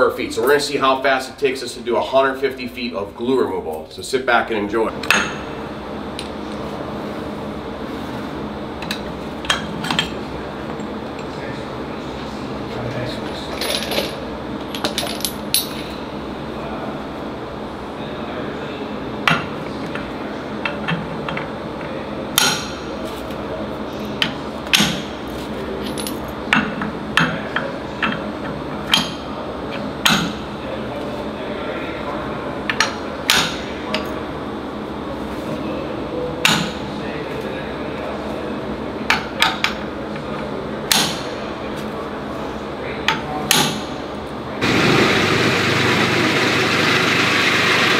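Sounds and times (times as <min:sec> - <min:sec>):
steady room hum: 0:00.0 - 0:47.9.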